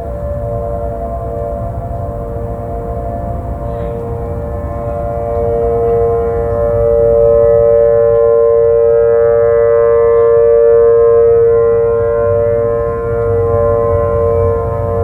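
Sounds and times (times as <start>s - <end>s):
loud steady tone: 0.0s - 15.0s.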